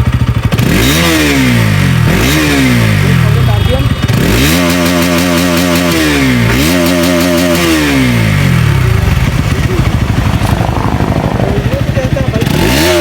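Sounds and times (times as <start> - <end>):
motorcycle engine idling: 0.0 - 13.0
motorcycle engine revving: 0.0 - 13.0.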